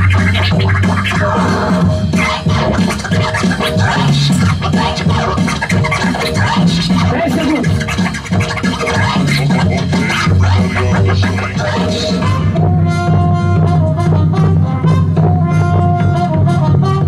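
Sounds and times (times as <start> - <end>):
record scratching on turntable: 0.0 - 13.8
hip hop beat with bass line: 0.0 - 17.0.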